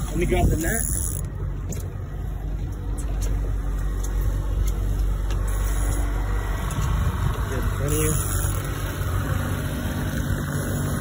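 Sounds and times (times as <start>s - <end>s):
outboard motor humming: 0.0s - 11.0s.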